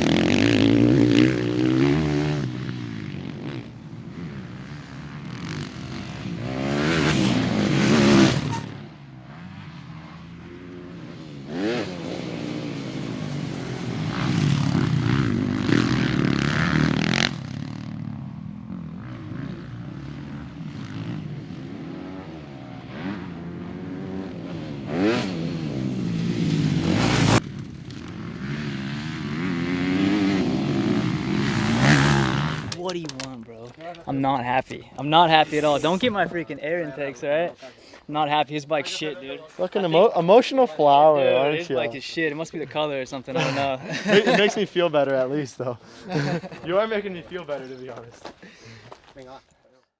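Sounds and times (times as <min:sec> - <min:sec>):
motocross bike engines revving: 0:00.0 - 0:48.8.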